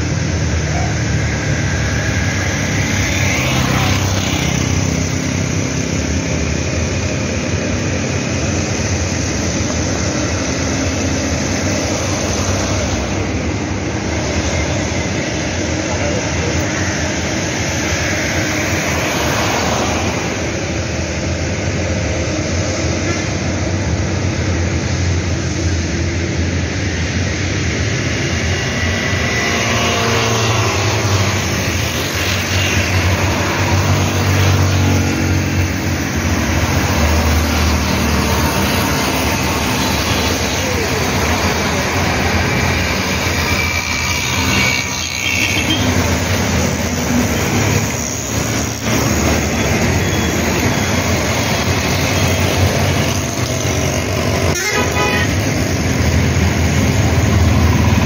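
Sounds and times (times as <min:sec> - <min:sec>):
heavy traffic rumble: 0:00.0 - 0:58.0.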